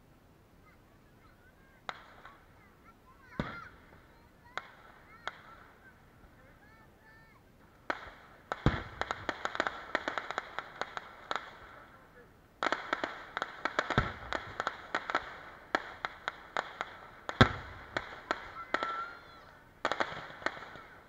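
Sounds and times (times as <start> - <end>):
rapid crackling reports: 0.6 - 21.0
fireworks sharp bangs: 1.2 - 21.0.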